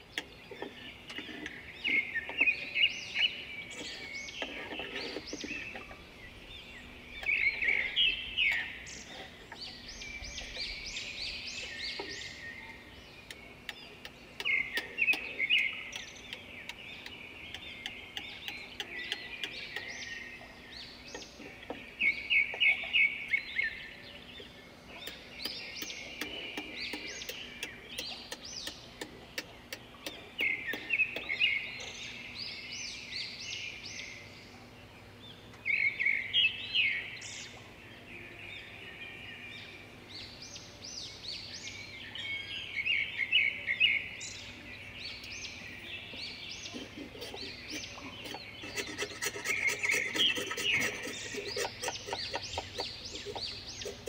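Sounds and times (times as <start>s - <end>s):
birds chirping faintly: 0.0s - 54.0s.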